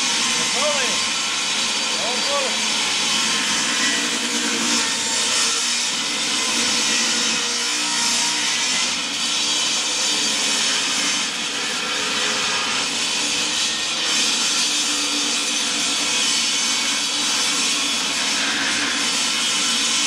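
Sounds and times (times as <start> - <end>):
power saw cutting wood: 0.0 - 20.0.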